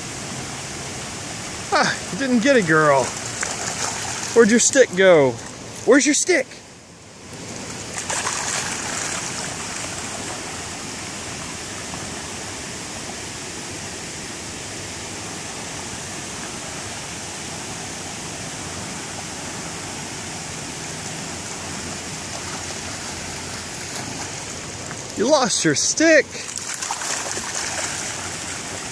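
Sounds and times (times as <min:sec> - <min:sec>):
creek water rushing over rocks: 0:00.0 - 0:28.9.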